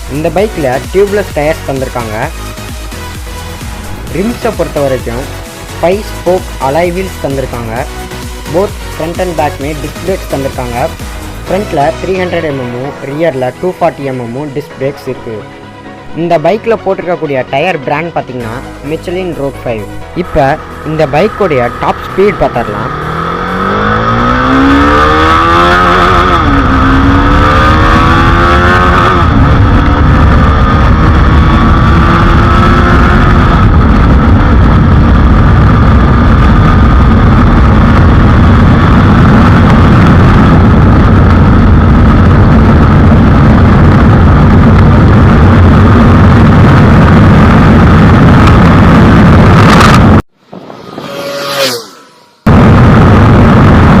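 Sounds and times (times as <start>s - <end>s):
wind rushing: 0.0s - 13.7s, 19.8s - 54.0s
motorcycle engine accelerating: 0.0s - 14.0s, 19.9s - 54.0s.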